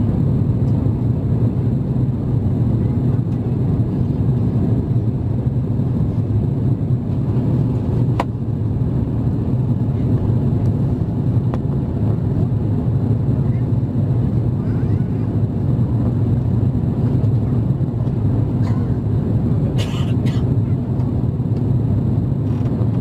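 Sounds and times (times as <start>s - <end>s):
airplane cabin roar: 0.0s - 23.0s.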